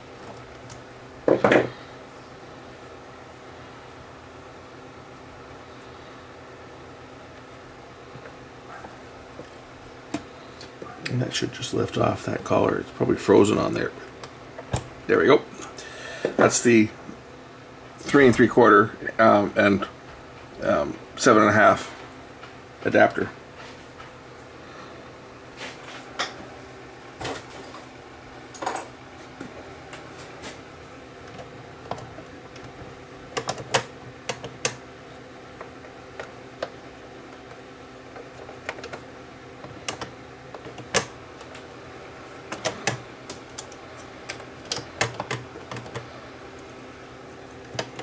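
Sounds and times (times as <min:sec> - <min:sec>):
steady fan hum: 0:00.0 - 0:48.0.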